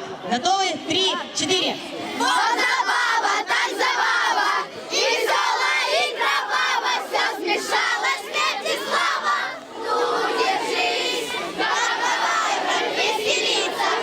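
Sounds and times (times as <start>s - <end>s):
children chanting together: 2.0s - 14.0s.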